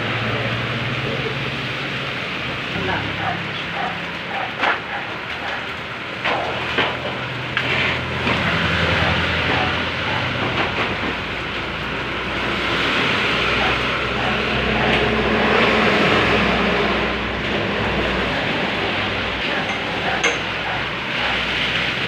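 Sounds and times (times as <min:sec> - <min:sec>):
loud noisy rumble: 0:00.0 - 0:22.0.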